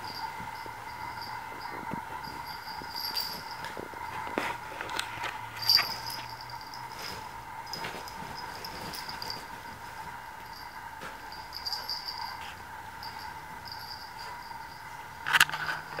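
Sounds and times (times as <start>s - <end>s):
animals scuffling: 0.0s - 14.8s.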